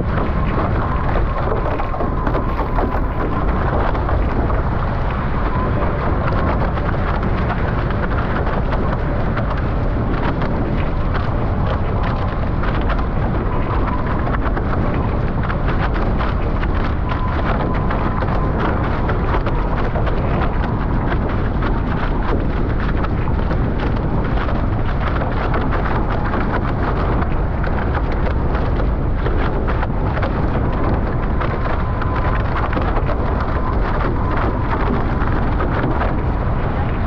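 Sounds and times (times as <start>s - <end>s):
rushing water: 0.0s - 37.0s
wind rumbling on microphone: 0.0s - 37.0s.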